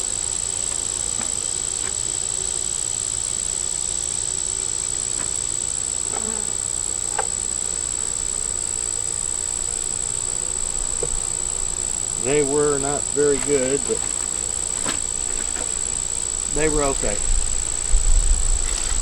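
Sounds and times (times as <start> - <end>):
bees buzzing: 0.0 - 19.0
high-pitched insect drone: 0.0 - 19.0.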